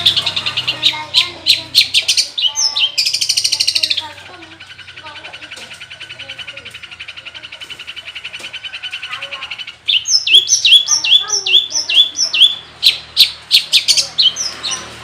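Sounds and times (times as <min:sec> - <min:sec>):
shrike singing: 0:00.0 - 0:15.0.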